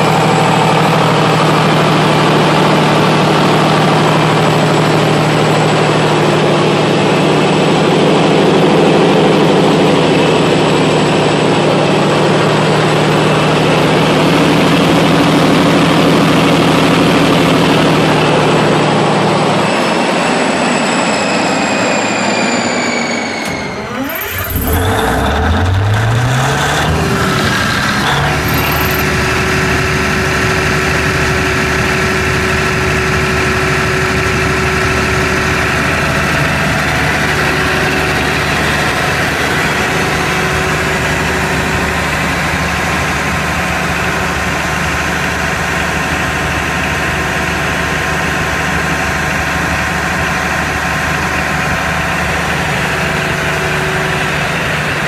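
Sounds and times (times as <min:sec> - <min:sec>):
diesel generator engine: 0:00.0 - 0:55.0.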